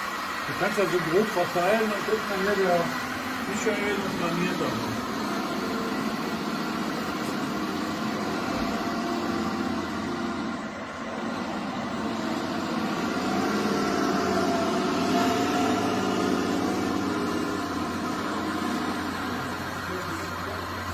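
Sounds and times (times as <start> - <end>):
toy construction machines motor drone: 0.0 - 20.9.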